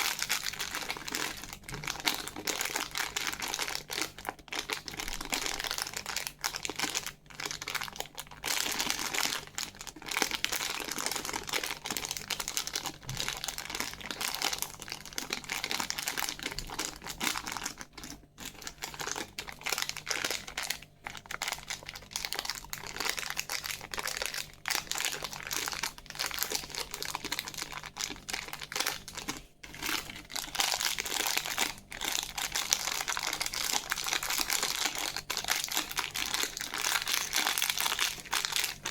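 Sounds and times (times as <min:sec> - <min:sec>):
plastic wrappers crinkling: 0:00.0 - 0:38.9.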